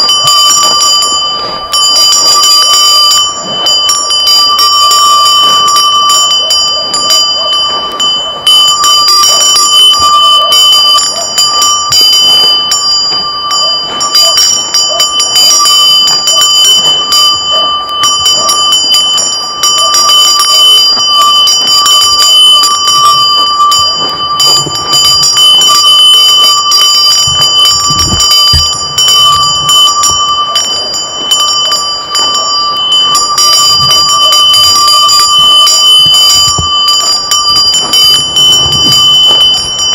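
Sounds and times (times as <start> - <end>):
cowbell clanking: 0.0 - 39.9.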